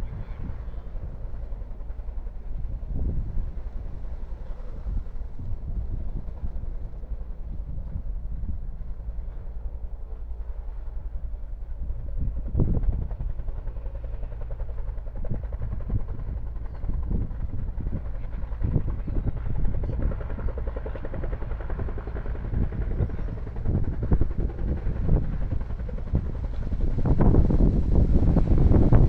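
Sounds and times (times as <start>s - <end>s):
helicopter rotor beating: 0.0s - 29.0s.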